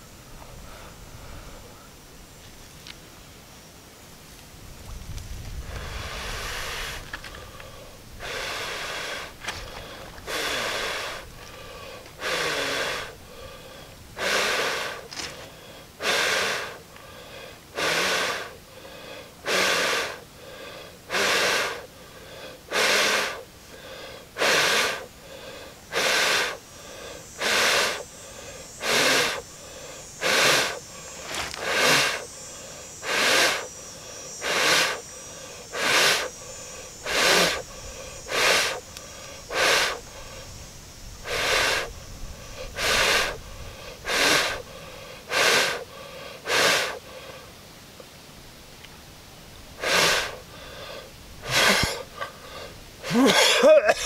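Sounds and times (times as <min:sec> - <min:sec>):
man blowing on tinder: 0:05.6 - 0:16.8, 0:17.7 - 0:47.0, 0:49.8 - 0:54.0.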